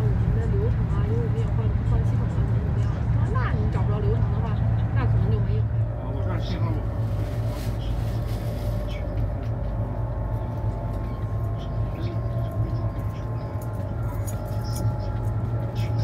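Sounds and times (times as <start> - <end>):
faint whining tones: 0.0 - 16.0
train cabin low rumble: 0.0 - 16.0.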